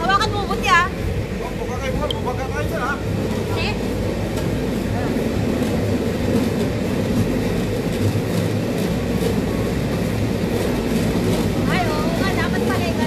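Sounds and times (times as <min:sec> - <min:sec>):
steel wheels rolling on rails: 0:00.0 - 0:13.0.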